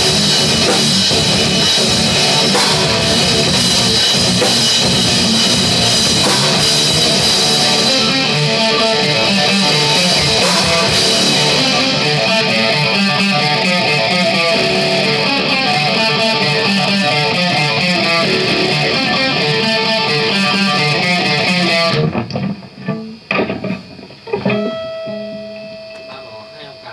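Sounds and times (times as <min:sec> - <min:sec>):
electric guitar and drums playing: 0:00.0 - 0:26.9
guitar note ringing: 0:00.0 - 0:26.9.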